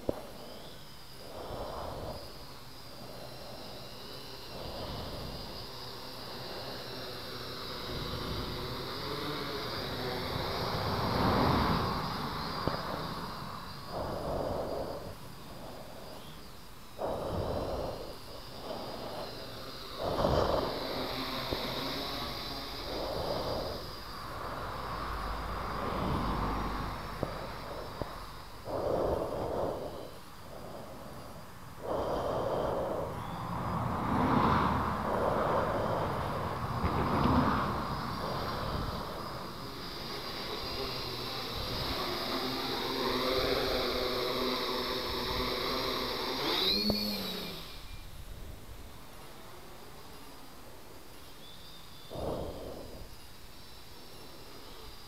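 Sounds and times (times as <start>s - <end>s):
quadcopter propellers buzzing: 0.0s - 50.4s.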